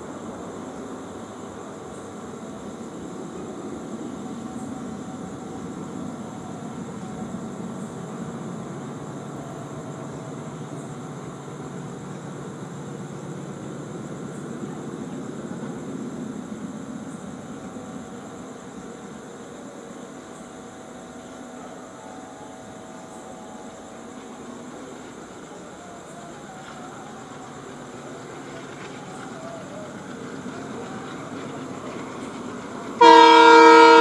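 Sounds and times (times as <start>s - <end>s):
diesel locomotive engine rumble: 0.0s - 34.0s
faint high whine: 0.0s - 34.0s.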